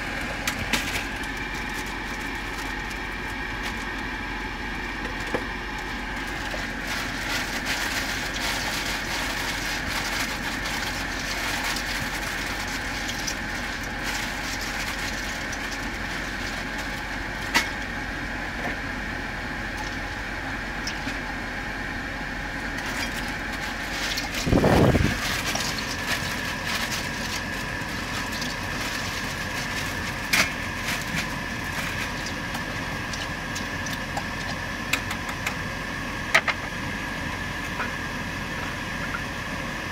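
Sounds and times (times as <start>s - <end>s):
ferry engine drone: 0.0s - 39.9s.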